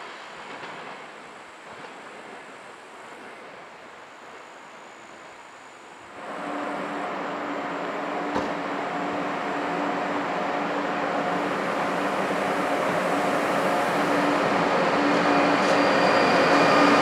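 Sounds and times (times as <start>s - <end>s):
electric locomotive running noise: 0.0s - 17.0s.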